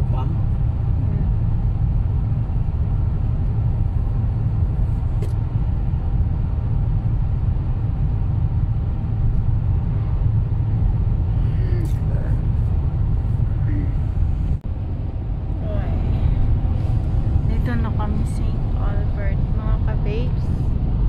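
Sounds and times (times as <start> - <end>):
car driving on highway: 0.0 - 21.0.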